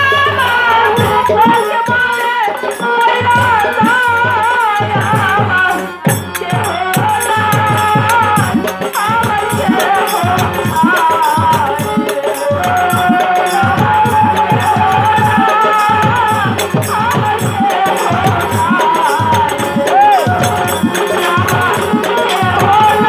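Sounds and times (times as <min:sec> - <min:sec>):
hand drum: 0:00.0 - 0:23.0
harmonium: 0:00.0 - 0:23.0
rattling percussion: 0:00.0 - 0:23.0
woman singing: 0:00.0 - 0:23.0.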